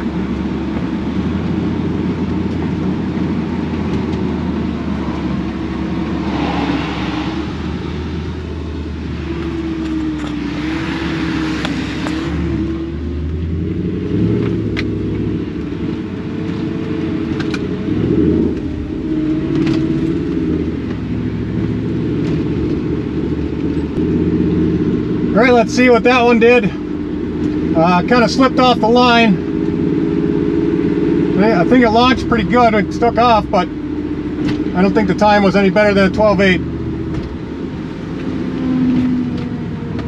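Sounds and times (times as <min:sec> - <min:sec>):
pickup engine running: 0:00.0 - 0:40.0.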